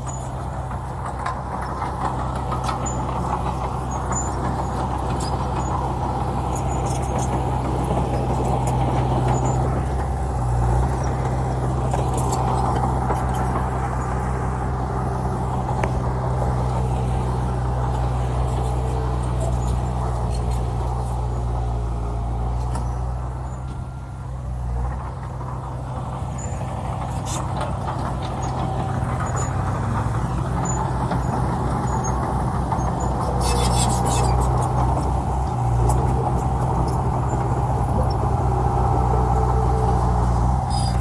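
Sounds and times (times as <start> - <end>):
heavy diesel machinery engine drone: 0.0 - 41.0.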